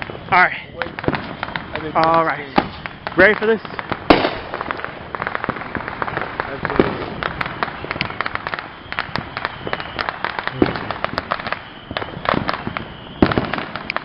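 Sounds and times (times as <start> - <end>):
firecrackers popping and cracking: 0.0 - 14.0
loud bangs: 0.0 - 14.0.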